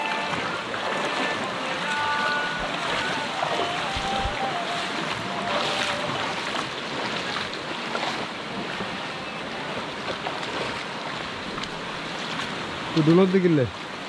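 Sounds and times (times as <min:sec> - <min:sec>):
water rushing in stream: 0:00.0 - 0:14.0.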